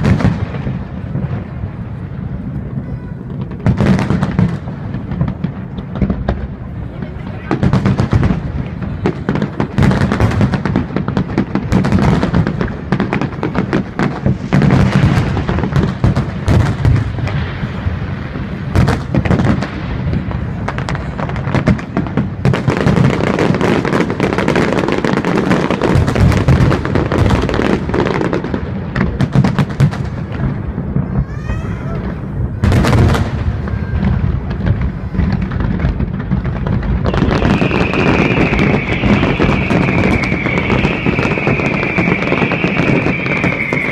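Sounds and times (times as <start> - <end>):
fireworks booming and crackling: 0.0 - 43.9.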